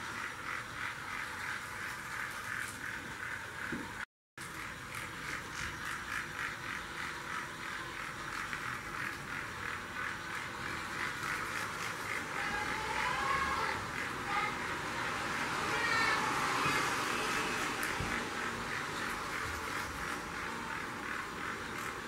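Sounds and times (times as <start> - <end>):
toy train chugging: 0.0 - 3.7, 4.4 - 22.0.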